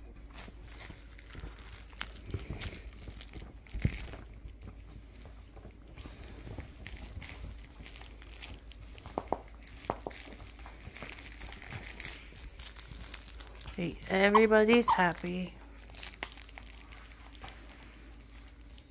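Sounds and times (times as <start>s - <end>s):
plush toys crinkling and rustling: 0.0s - 18.9s.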